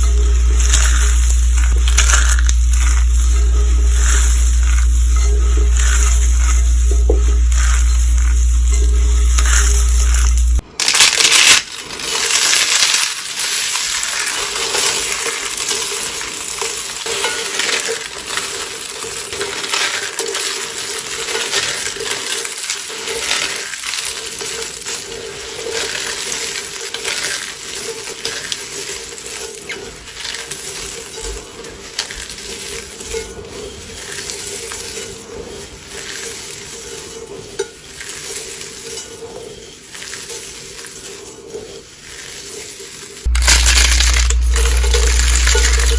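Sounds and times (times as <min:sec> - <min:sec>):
dry soap crunching and crackling: 0:00.0 - 0:41.4, 0:42.0 - 0:45.9.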